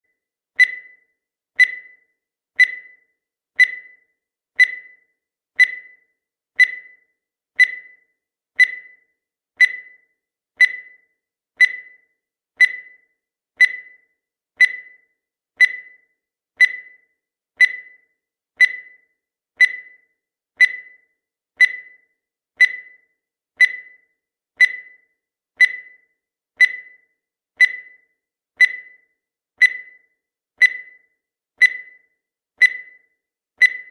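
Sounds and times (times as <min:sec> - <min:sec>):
timer ticking: 0:00.6 - 0:33.9.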